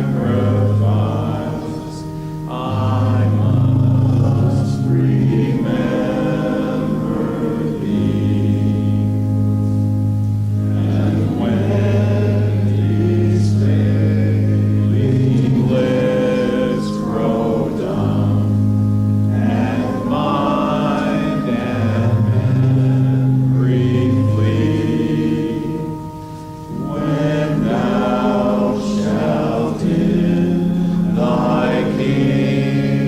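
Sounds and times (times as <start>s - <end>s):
congregation singing a hymn: 0.0s - 33.0s.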